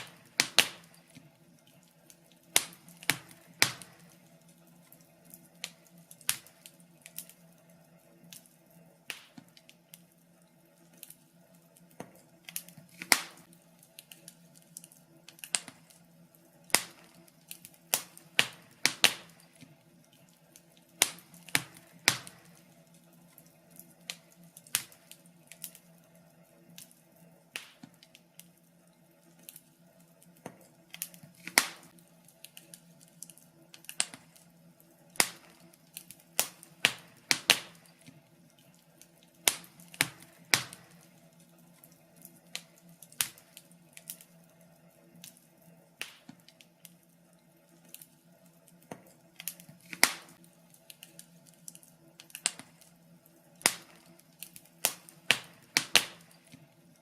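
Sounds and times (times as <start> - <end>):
faint steady hum: 0.0 - 57.0
wood fire crackling: 0.0 - 57.0.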